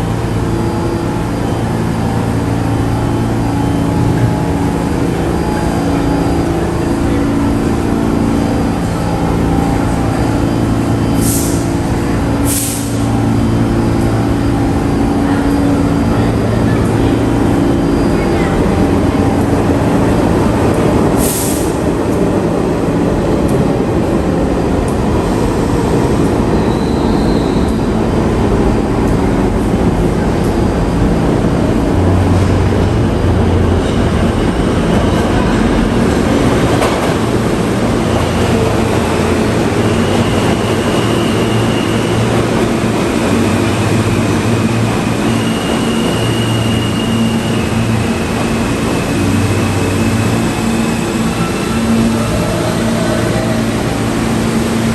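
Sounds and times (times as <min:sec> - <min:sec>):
subway train rumbling: 0:00.0 - 0:54.9.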